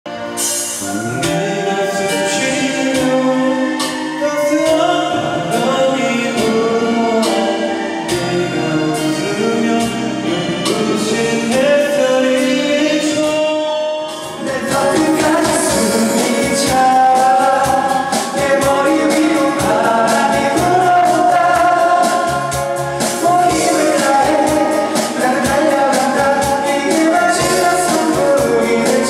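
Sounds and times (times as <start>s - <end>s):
musical accompaniment: 0.0s - 29.0s
person singing: 0.1s - 29.0s.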